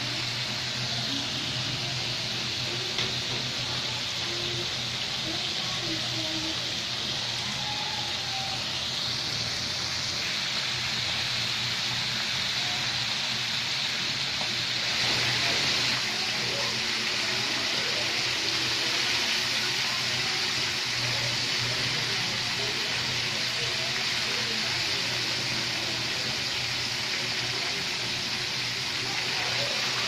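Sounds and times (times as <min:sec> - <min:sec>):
oil sizzling in a pan: 0:00.0 - 0:30.0.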